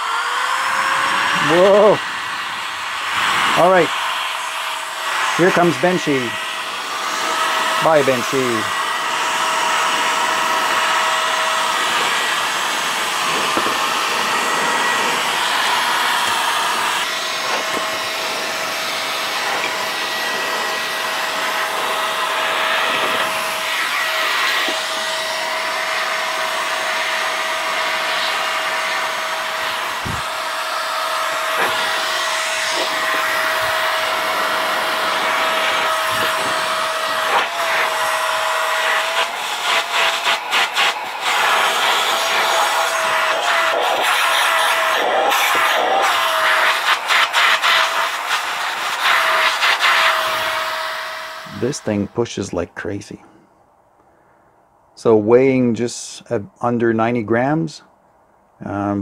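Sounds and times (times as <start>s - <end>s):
turbine blower whining: 0.0s - 53.4s.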